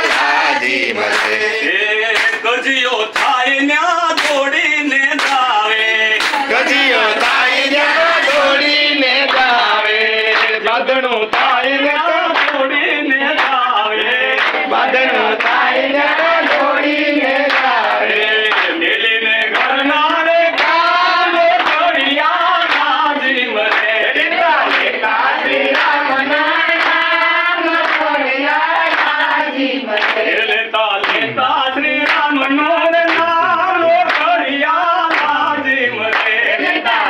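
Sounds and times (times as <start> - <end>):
hand claps: 0.0 - 16.8, 17.4 - 37.0
group of people singing: 0.0 - 37.0.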